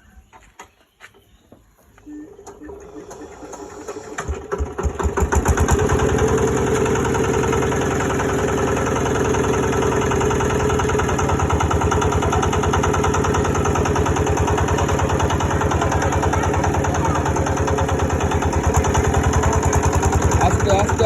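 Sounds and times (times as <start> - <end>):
car engine starting and idling: 2.5 - 21.0.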